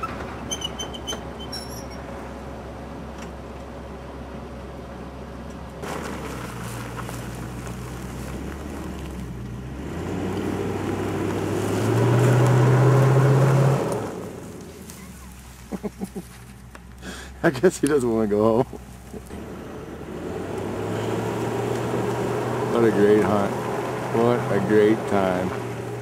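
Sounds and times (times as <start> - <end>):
car engine hum: 0.0 - 26.0.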